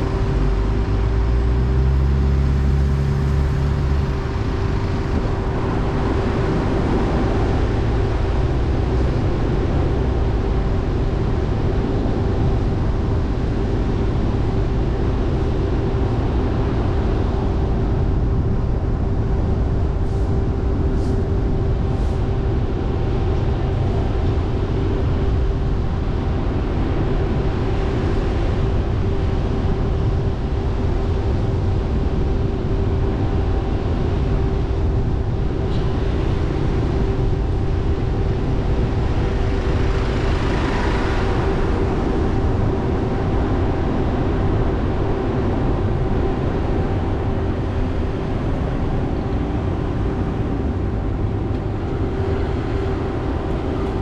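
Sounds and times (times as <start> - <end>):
car engine and tyres rumbling: 0.0 - 54.0
constant hum: 0.0 - 54.0.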